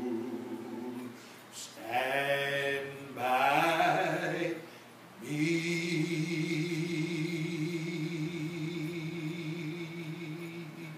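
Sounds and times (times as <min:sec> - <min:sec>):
man singing unaccompanied: 0:00.0 - 0:10.9.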